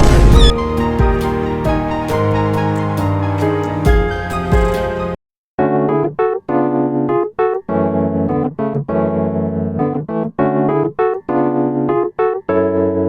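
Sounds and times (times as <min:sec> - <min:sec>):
electric piano melody: 0:00.0 - 0:13.0.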